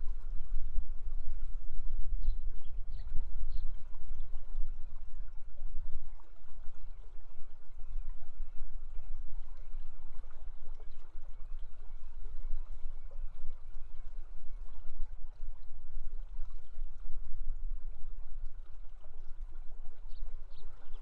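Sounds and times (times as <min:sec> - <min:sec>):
river water flowing: 0:02.7 - 0:21.0.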